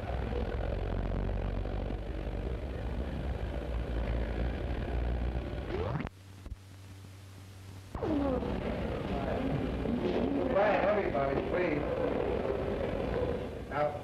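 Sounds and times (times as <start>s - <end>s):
faint low hum: 0.0s - 14.0s
low rumble and hiss of old recording: 0.0s - 14.0s.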